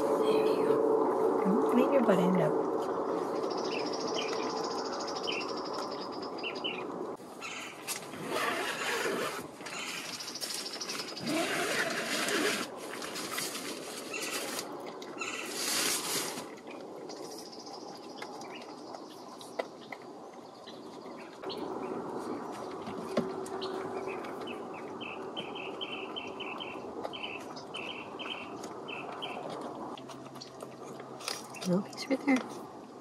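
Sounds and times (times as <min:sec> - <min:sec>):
outdoor background rush: 0:00.0 - 0:33.0.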